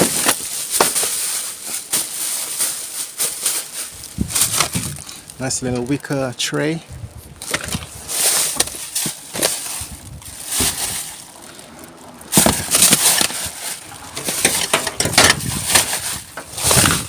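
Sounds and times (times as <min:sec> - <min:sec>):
rummaging through rubbish bin: 0:00.0 - 0:06.8, 0:07.4 - 0:17.0.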